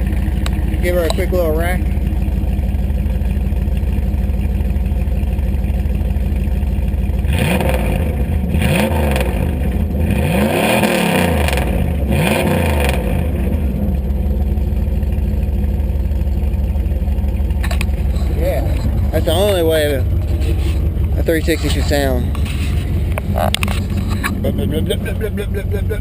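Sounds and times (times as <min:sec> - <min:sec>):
vee eight engine idling and revving: 0:00.0 - 0:26.0.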